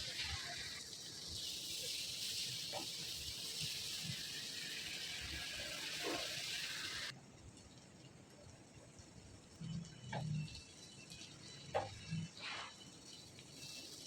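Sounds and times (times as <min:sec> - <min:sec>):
food sizzling in hot oil: 0:00.0 - 0:07.8, 0:09.5 - 0:14.0.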